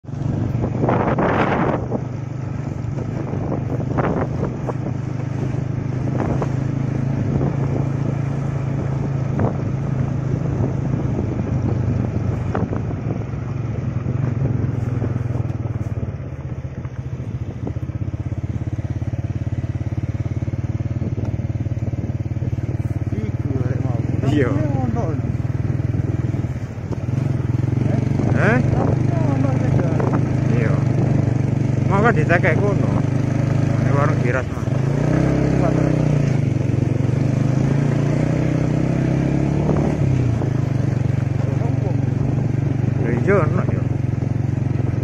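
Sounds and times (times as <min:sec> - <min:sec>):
motorcycle engine running: 0:00.0 - 0:45.0
wind noise on microphone: 0:00.0 - 0:45.0.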